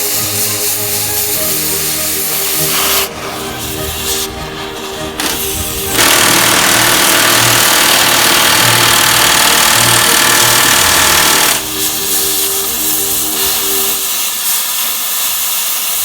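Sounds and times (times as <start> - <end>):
cutting torch hissing: 0.0 - 16.0.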